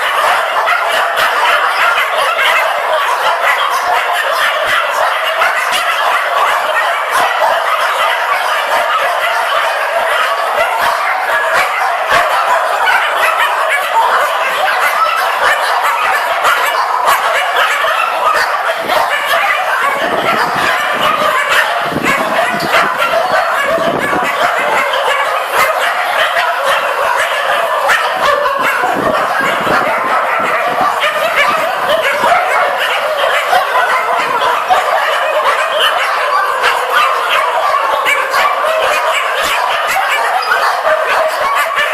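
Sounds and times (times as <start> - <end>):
many dogs barking: 0.0 - 41.9.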